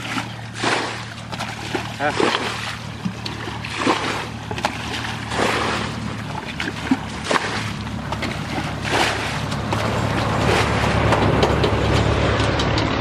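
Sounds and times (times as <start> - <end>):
water splashing and swishing: 0.0 - 13.0.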